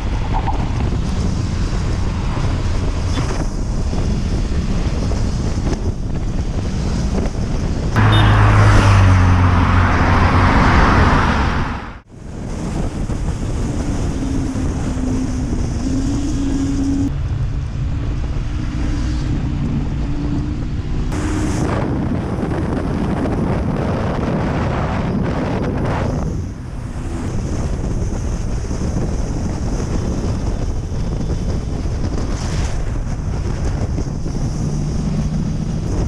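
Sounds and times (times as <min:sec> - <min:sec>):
wind rushing over microphone: 0:00.0 - 0:36.0.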